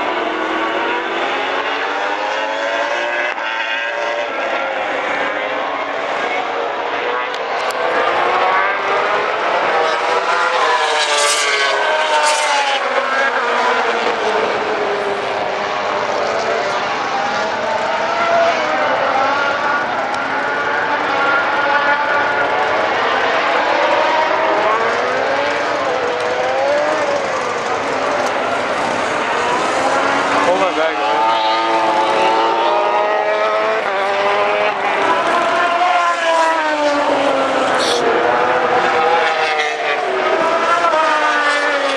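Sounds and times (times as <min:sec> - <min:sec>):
racing motorcycle engines: 0:00.0 - 0:41.9.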